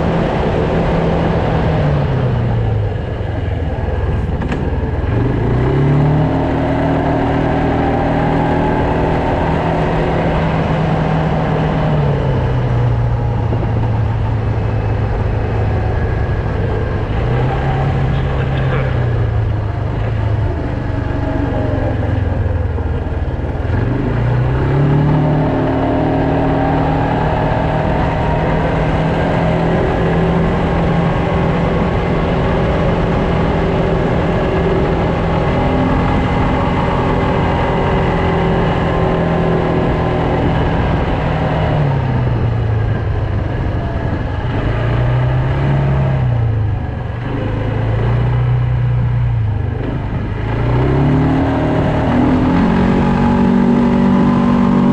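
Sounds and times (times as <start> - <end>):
quad bike engine revving: 0.0 - 54.9
wind and road noise: 0.0 - 54.9.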